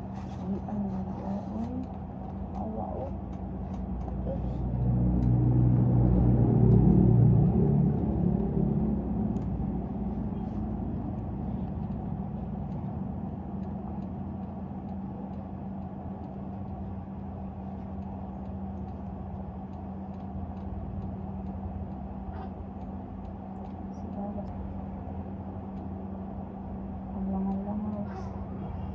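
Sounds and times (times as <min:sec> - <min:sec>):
vehicle engine rumble: 0:00.0 - 0:28.9.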